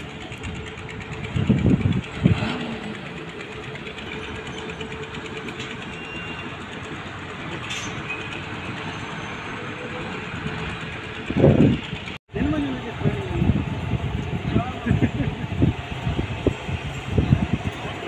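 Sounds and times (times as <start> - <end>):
diesel truck engines rumbling: 0.0 - 18.0.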